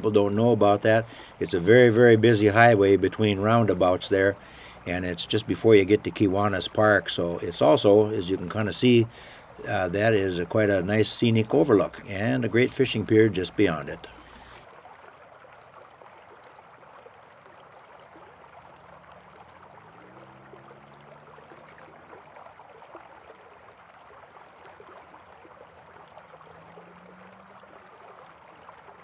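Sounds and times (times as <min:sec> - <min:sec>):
flowing water: 0:00.0 - 0:29.0.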